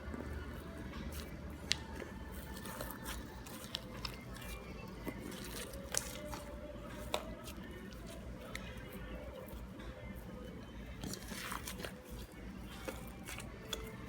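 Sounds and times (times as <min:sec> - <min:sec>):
slime squishing: 0:00.0 - 0:14.0.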